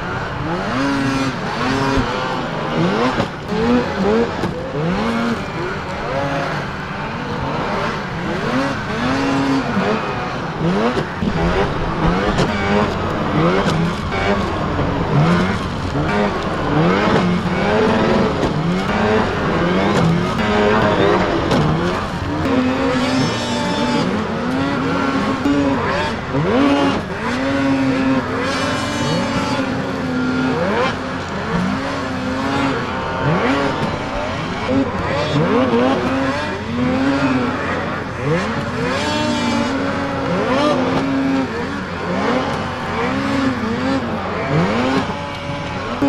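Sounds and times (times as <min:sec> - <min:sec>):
snowmobile engines revving: 0:00.0 - 0:46.0.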